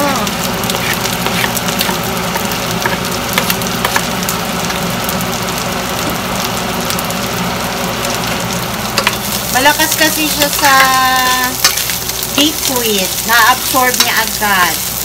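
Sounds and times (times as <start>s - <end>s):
onion sizzling in frying pan: 0.0s - 15.0s.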